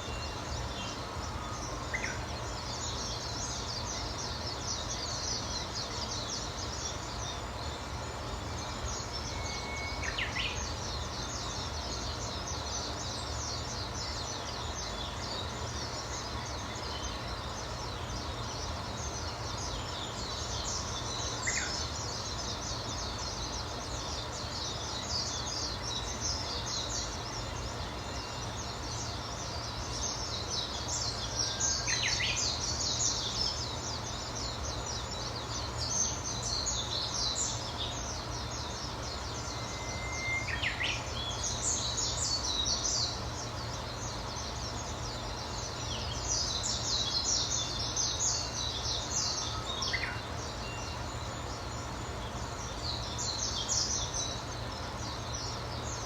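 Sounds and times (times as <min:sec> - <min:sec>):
low background hiss: 0:00.0 - 0:56.0.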